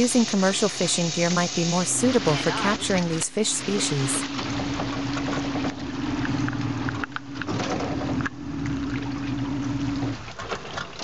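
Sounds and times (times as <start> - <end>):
boat motor humming: 0.0 - 11.0
water splashing against hull: 0.9 - 11.0.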